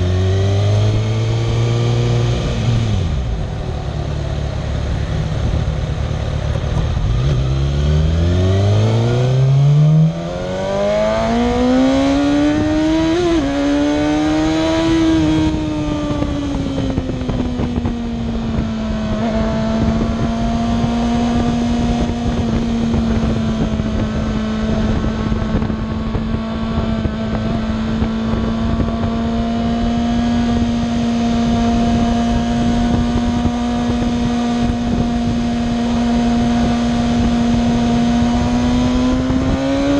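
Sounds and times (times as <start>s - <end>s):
motorcycle engine accelerating: 0.0s - 39.9s
wind rushing: 0.2s - 39.9s.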